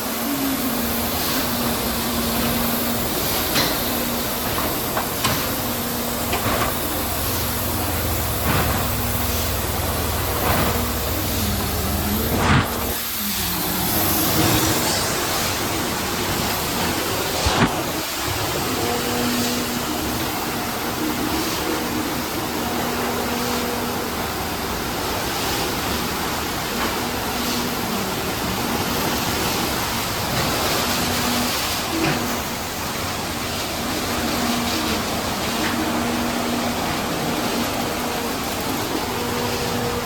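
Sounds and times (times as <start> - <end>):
car wash spray and machinery: 0.0 - 40.0.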